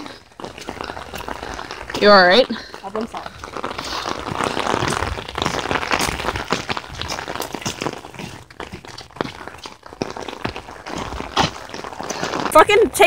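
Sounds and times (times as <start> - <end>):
clothing rustle: 0.0 - 13.0
footsteps on wet gravel: 0.0 - 13.0.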